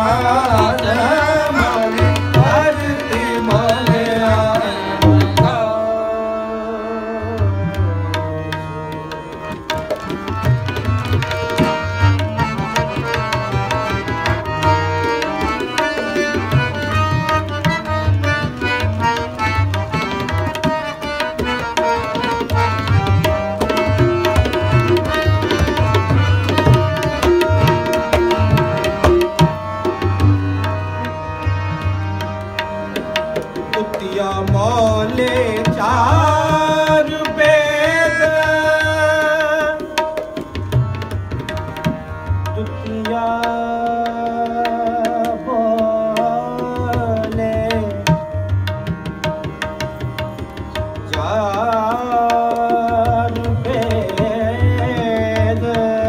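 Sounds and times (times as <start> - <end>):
tabla playing: 0.0 - 56.0.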